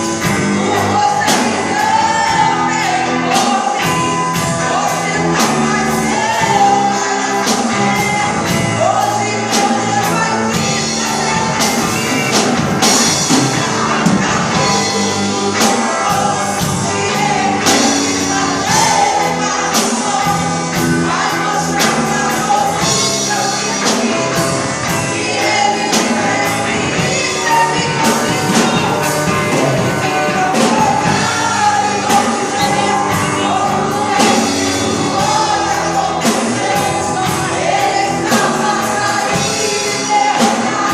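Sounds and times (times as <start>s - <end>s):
drums steady beat: 0.0s - 40.9s
gospel singers: 0.0s - 40.9s.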